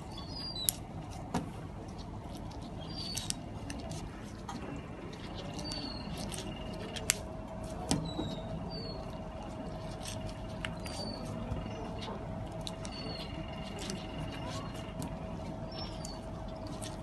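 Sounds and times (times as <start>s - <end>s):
outdoor background rumble: 0.0s - 17.0s
steady hum: 0.0s - 17.0s.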